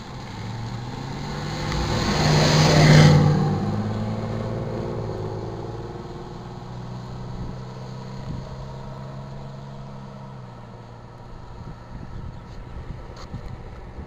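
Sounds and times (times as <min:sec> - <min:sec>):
pickup truck engine hum: 0:00.0 - 0:14.0.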